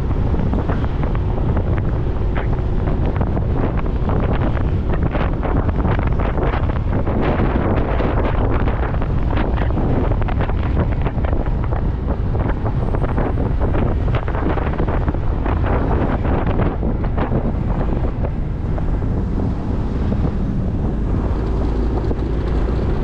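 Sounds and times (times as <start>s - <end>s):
motorcycle engine rumble: 0.0s - 23.0s
road noise: 0.0s - 23.0s
wind buffeting microphone: 0.0s - 23.0s.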